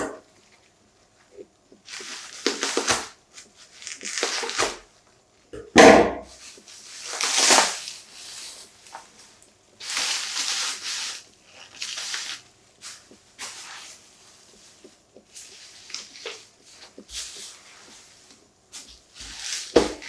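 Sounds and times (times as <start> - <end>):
packaging rustling and scraping: 1.8 - 4.9, 6.3 - 20.0.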